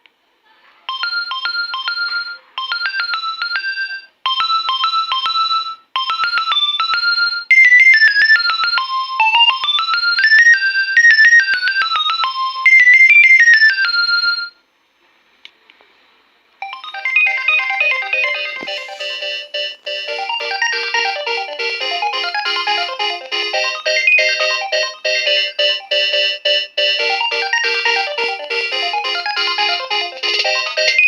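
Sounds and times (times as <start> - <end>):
mobile phone ringtone melody: 0.9 - 14.6, 16.6 - 31.0.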